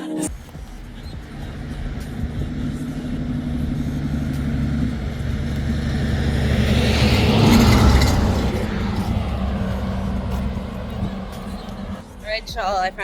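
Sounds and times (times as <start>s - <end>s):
road noise: 0.2s - 13.0s
car engine hum: 0.3s - 13.0s.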